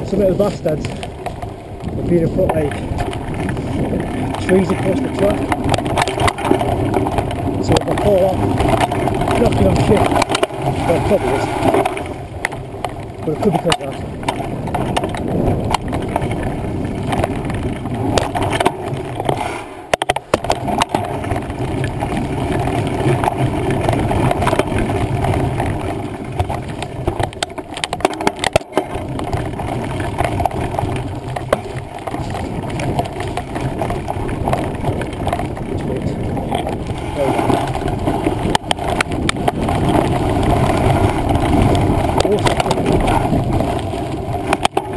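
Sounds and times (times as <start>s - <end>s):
bike knocks and rattles: 0.0s - 44.9s
bike tyres rumbling on trail: 0.0s - 44.9s.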